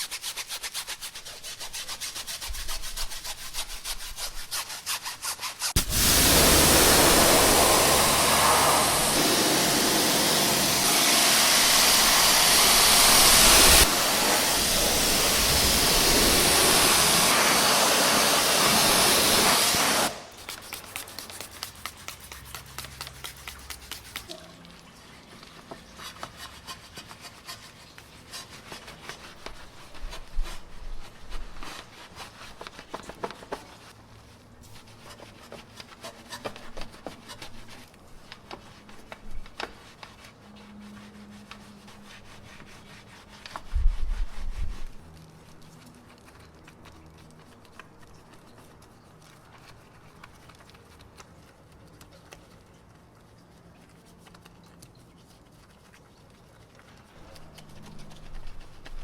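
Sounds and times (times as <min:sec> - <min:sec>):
rubbing and scrubbing: 0:00.0 - 0:59.0.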